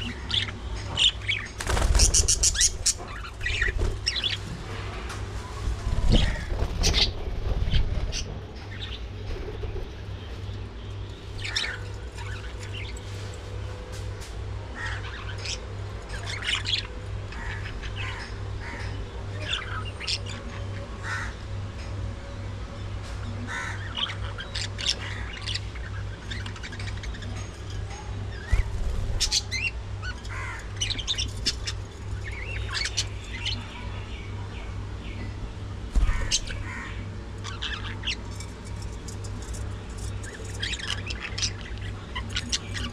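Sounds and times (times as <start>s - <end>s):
budgerigars chirping and squawking: 0.0s - 4.5s, 5.9s - 10.4s, 11.1s - 13.8s, 14.7s - 21.5s, 23.4s - 42.9s
steady low hum: 0.0s - 42.9s.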